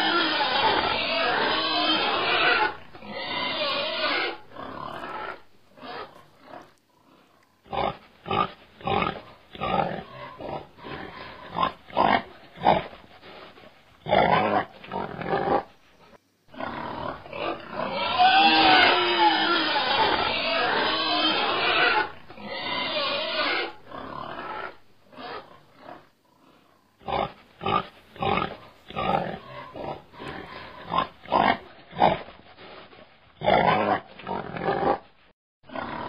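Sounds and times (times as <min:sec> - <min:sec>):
pig squealing: 0:00.0 - 0:13.0, 0:14.0 - 0:15.7, 0:16.6 - 0:32.2
pig grunting: 0:00.0 - 0:15.7, 0:16.5 - 0:35.1, 0:35.7 - 0:36.0.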